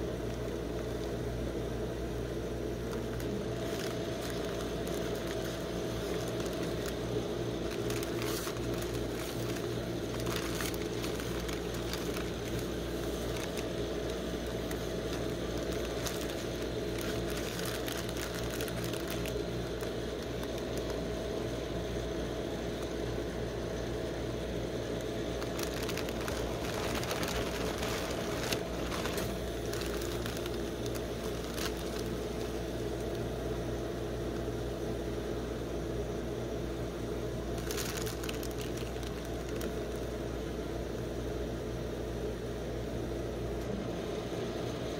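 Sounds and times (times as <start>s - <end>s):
foil snack bags crinkling: 0.0s - 34.7s, 37.2s - 40.9s
low machine hum: 0.0s - 44.9s.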